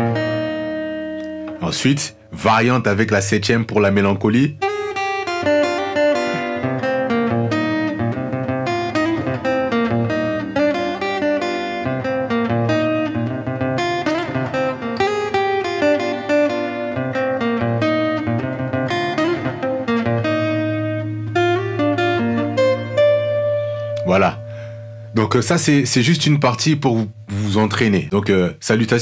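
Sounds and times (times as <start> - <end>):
guitar melody with picked notes: 0.0 - 28.1.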